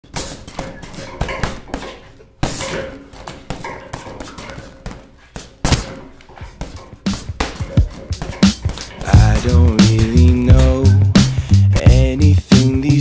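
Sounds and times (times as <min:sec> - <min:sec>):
irregular thumps and knocks: 0:00.0 - 0:11.9.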